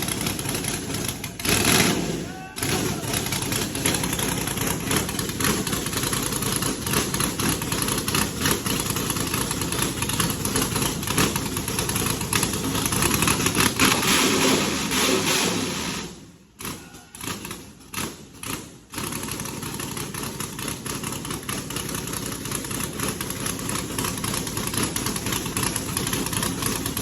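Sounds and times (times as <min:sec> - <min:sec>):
engine idling with choppy lope: 0:00.0 - 0:27.0.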